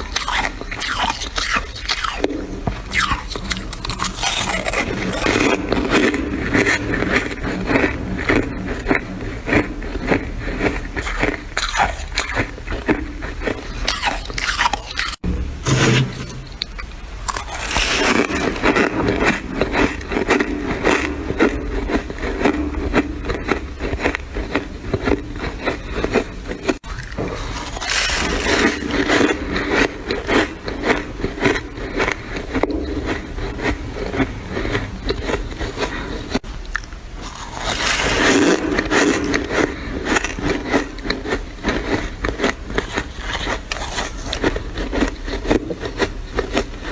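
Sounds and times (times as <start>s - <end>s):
frost being chewed crunching: 0.0s - 46.9s.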